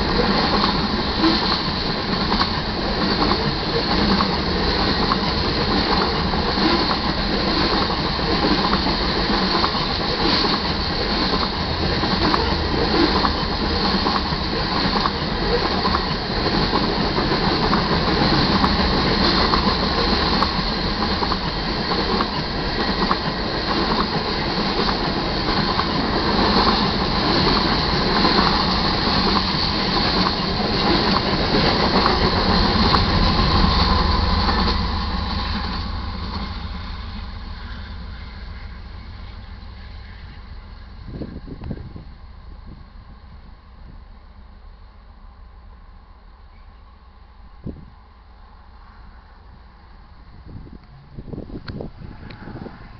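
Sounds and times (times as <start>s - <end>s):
freight train wheels rumbling and rattling: 0.0s - 52.9s.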